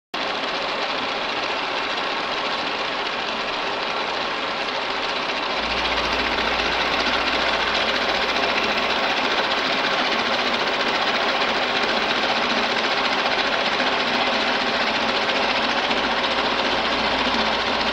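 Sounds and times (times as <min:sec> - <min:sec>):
milling machine running: 0:00.2 - 0:17.9
rapid metal cutting chatter: 0:01.4 - 0:17.9.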